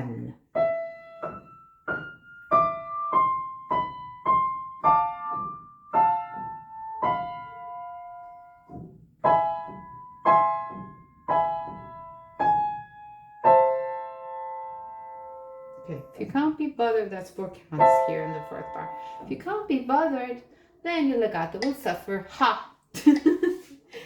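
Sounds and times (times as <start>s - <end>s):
slow legato piano: 0.0s - 16.6s, 17.7s - 20.8s.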